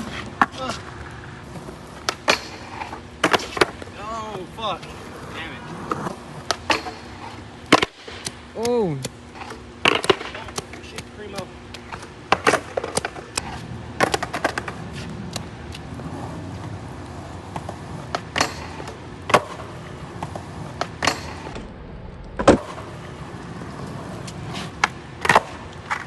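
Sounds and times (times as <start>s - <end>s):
skateboard clacks on ground: 0.0s - 5.0s, 5.8s - 21.7s, 22.3s - 26.0s
skateboard rolling on wet concrete: 0.0s - 8.2s, 9.3s - 26.0s.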